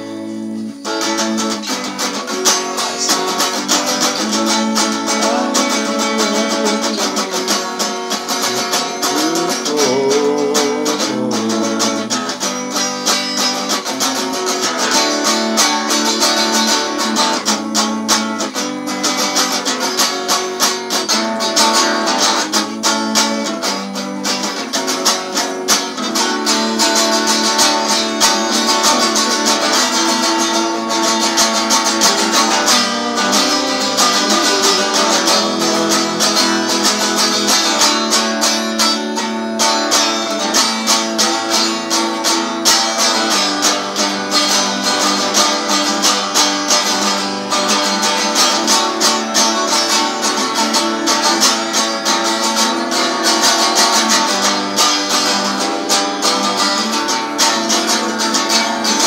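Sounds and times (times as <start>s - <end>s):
electric guitar strummed: 0.0s - 59.0s.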